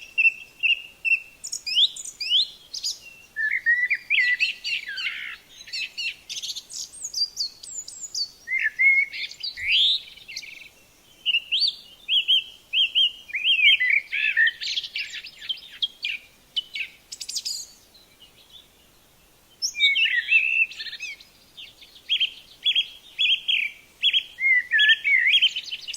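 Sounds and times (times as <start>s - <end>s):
songbird singing: 0.0s - 25.9s.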